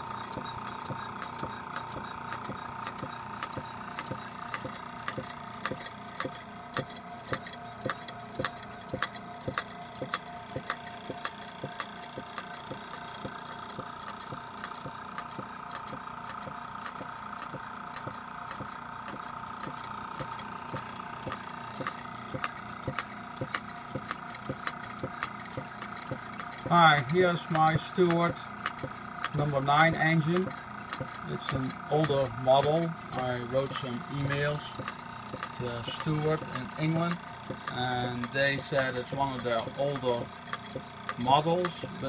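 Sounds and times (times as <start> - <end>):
model steam engine ticking: 0.0 - 42.0
steady hum: 0.0 - 42.0.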